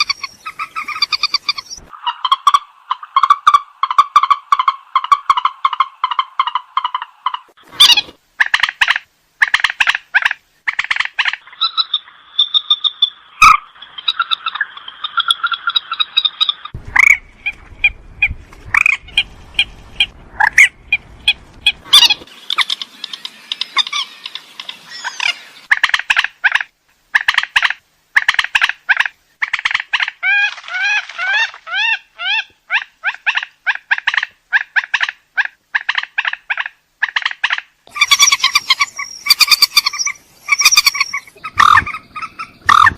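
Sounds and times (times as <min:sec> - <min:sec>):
bird calling with harsh clucks: 0:00.0 - 0:42.9.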